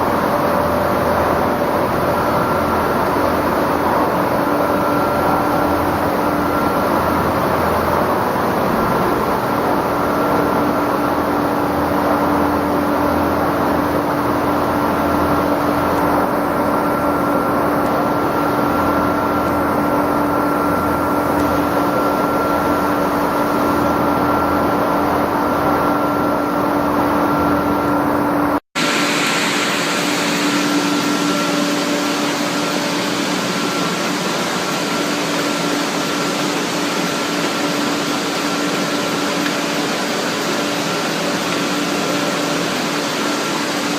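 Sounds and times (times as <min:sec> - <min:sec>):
production line machinery humming: 0:00.0 - 0:43.9.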